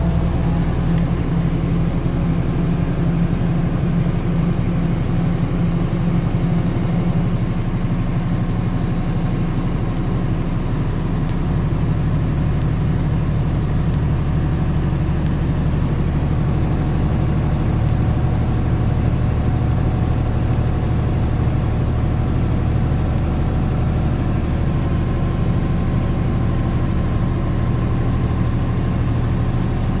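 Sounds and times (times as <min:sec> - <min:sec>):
road noise: 0:00.0 - 0:30.0
vehicle engine drone: 0:00.0 - 0:30.0.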